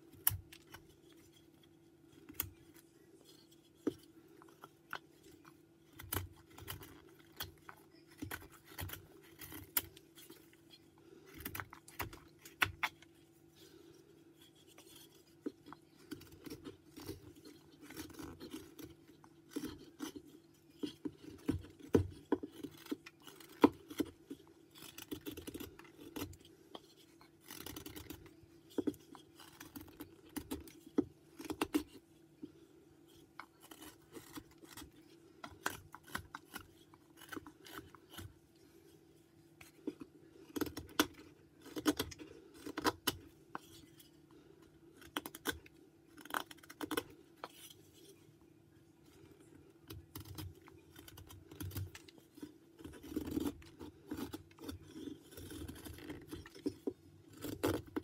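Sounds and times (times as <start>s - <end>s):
knife cutting and scraping wood: 0.0s - 48.2s, 49.2s - 58.0s.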